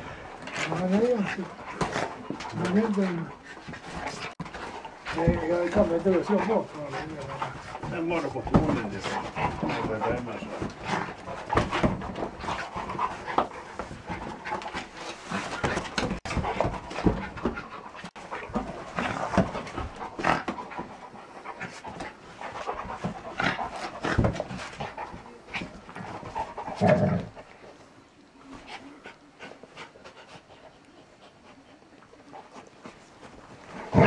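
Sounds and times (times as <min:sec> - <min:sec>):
dogs panting and snuffling: 0:00.0 - 0:34.0.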